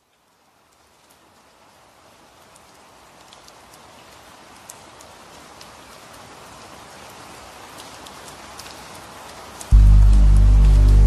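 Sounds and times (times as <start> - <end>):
rain drop ticks: 0.0 - 11.0
rain hissing: 1.7 - 11.0.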